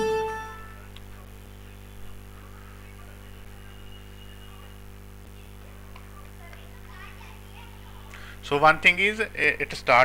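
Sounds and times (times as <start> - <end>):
low electrical mains hum: 0.0 - 10.0.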